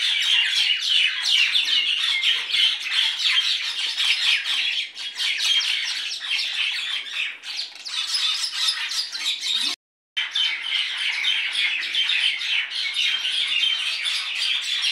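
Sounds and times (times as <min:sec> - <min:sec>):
many birds chirping and squawking: 0:00.0 - 0:14.9.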